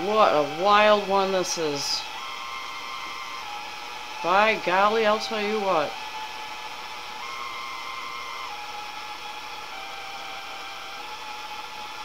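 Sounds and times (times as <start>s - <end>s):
faint high whistling tones: 0.0s - 12.0s
radio static hiss: 0.0s - 12.0s.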